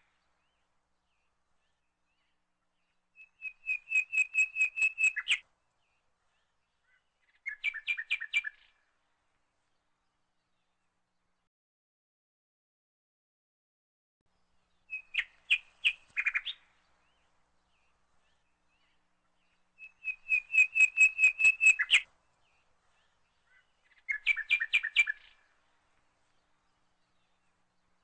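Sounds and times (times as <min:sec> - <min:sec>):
bird chirping: 0:00.0 - 0:08.8, 0:14.4 - 0:28.0.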